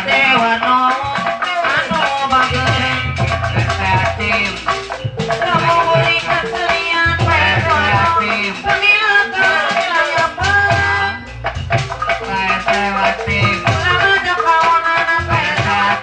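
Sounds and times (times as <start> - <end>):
drum strokes: 0.0 - 16.0
rattling percussion: 0.0 - 16.0
bending melodic line: 2.3 - 16.0.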